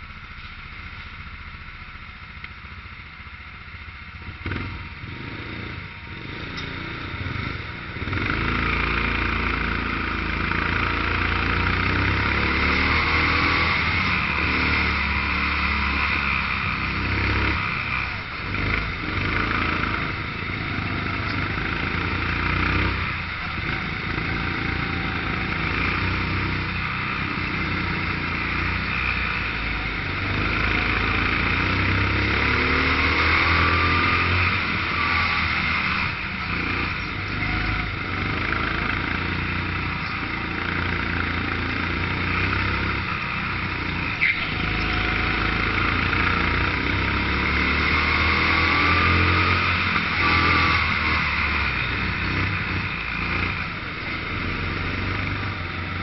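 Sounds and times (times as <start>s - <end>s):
kart engine revving: 4.4s - 56.0s.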